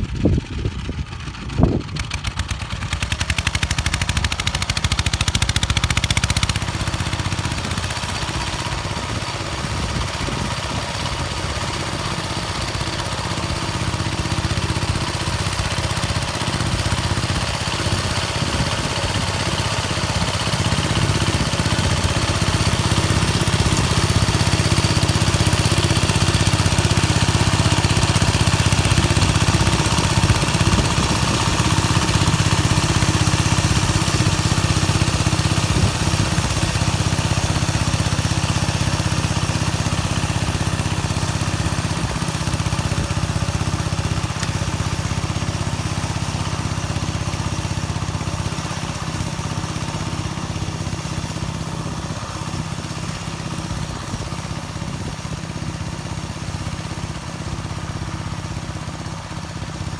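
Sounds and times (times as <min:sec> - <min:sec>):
small tractor engine pulsing: 0:00.0 - 0:59.9.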